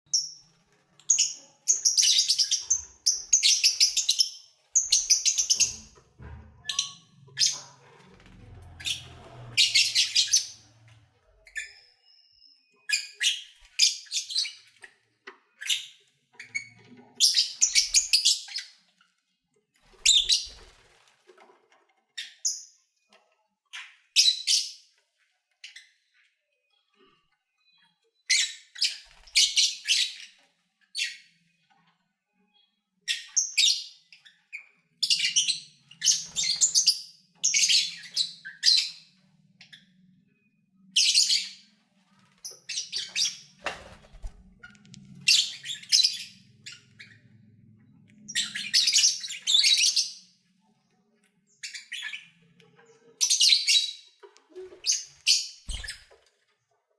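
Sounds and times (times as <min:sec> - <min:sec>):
lovebirds chirping and squawking: 0:00.1 - 0:21.4, 0:22.0 - 0:56.6.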